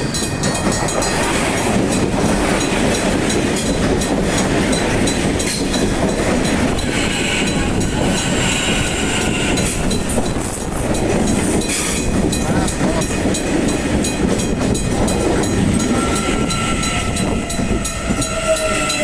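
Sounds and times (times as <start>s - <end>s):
electric train rumbling on rails: 0.0s - 19.0s.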